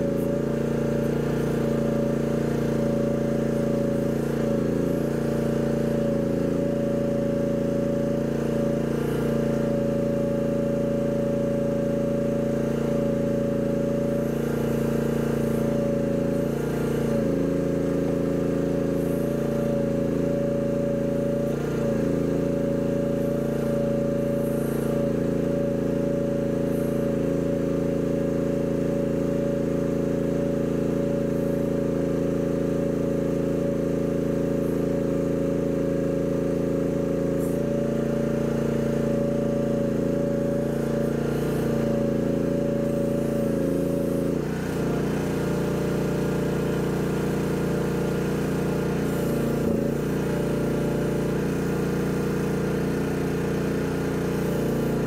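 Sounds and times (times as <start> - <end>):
excavator engine running: 0.0 - 55.0
high hydraulic whine: 0.0 - 55.0.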